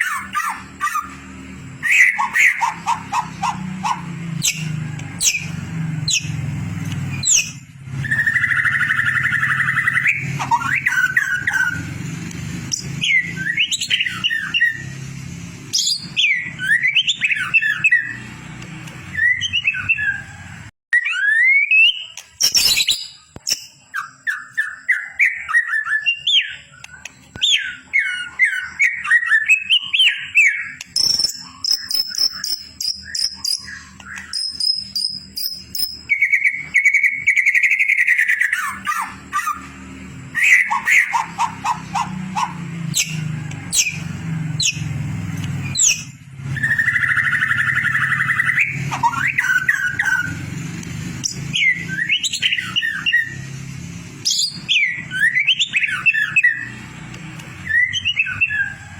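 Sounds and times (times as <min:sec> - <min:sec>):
bird song with whistles and trills: 0:00.0 - 0:58.9.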